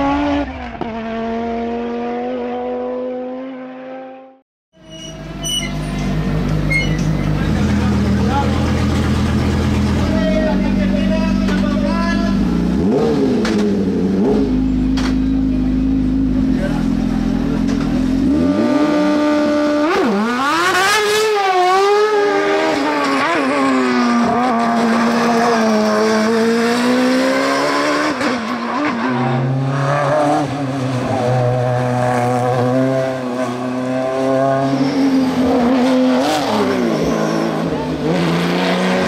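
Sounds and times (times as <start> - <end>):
racing car engines revving: 0.0 - 39.0.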